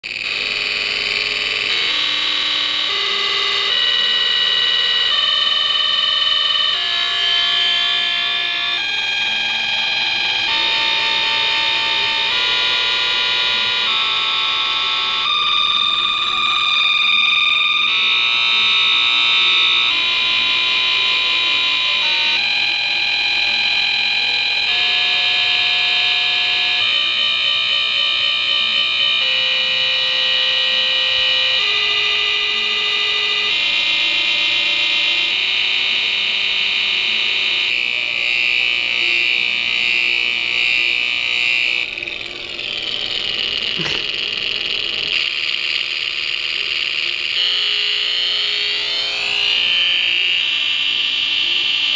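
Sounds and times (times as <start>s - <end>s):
harsh buzzy electronic tone: 0.0s - 51.9s.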